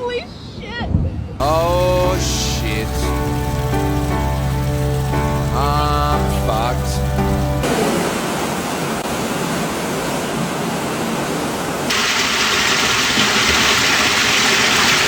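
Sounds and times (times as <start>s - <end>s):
floodwater rushing: 1.4s - 15.0s.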